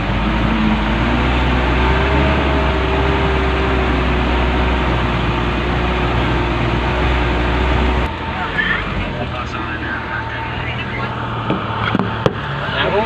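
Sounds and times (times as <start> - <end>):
diesel truck engine under load: 0.0 - 13.0
engine whine: 0.0 - 13.0.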